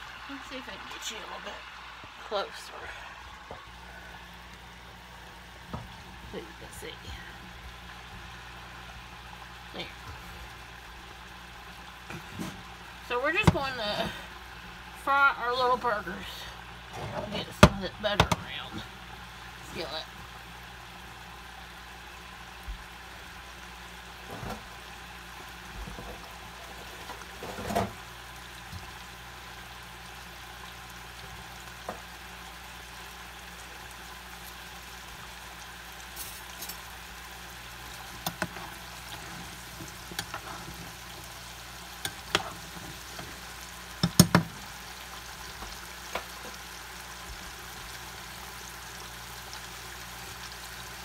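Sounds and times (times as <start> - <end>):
patties sizzling in skillet: 0.0 - 51.0.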